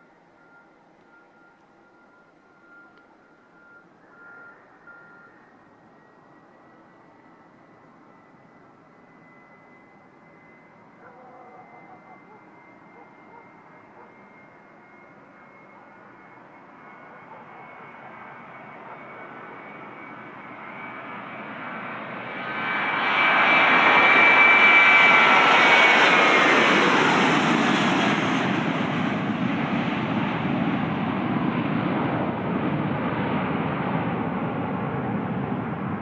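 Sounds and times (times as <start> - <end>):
jet airliner taking off: 0.3 - 36.0.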